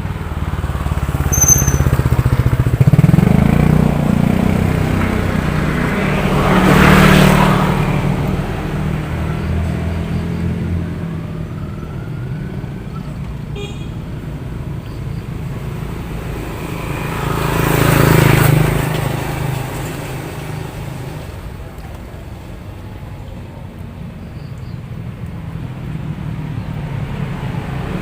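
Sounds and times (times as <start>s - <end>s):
vehicle engine passing by: 0.0s - 13.3s, 14.3s - 24.2s, 24.9s - 28.0s.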